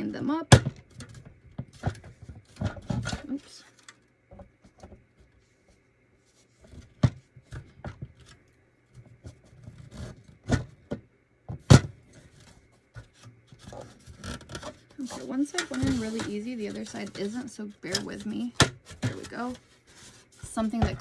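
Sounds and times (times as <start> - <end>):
rubbing and handling noise: 0.7 - 21.0.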